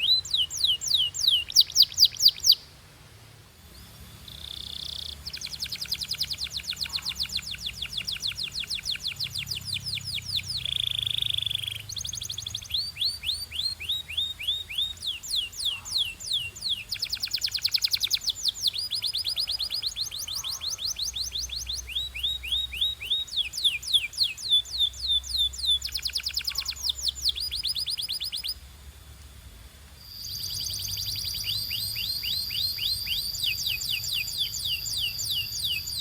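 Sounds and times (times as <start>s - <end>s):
canary singing trills: 0.0s - 2.7s, 3.7s - 28.6s, 30.0s - 36.0s.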